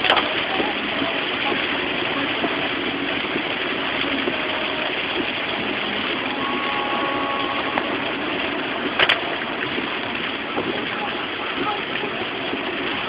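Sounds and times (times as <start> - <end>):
car road and engine noise: 0.0 - 13.0
heavy rain on car roof: 0.0 - 13.0.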